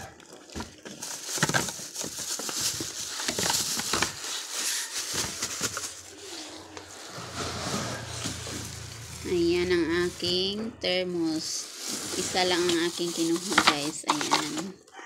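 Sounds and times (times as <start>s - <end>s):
plastic wrapping crinkling: 0.0s - 10.6s, 11.3s - 14.8s
cardboard scraping: 0.6s - 10.5s, 11.5s - 14.7s.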